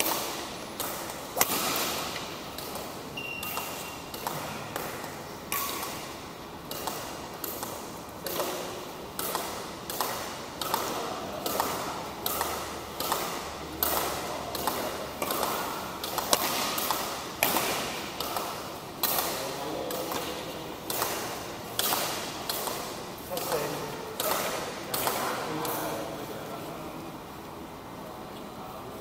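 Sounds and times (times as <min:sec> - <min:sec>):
rackets striking shuttlecock: 0:00.0 - 0:25.8.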